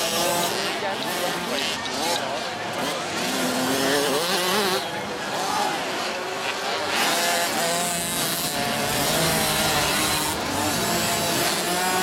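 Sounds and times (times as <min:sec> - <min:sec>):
two-stroke minibike engines buzzing: 0:00.0 - 0:12.0.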